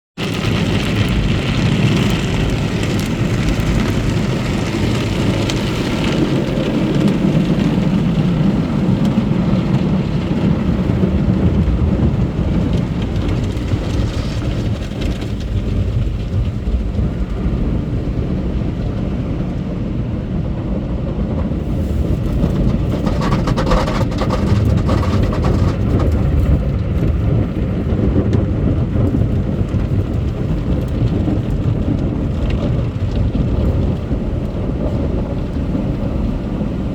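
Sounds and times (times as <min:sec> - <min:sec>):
car wash machinery: 0:00.2 - 0:36.9.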